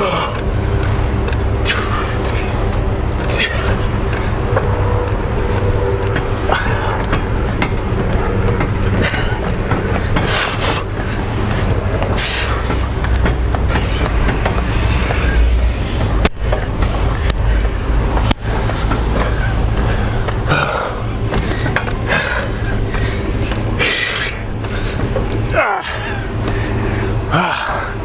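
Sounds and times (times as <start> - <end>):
tyres rolling over asphalt: 0.0 - 28.0.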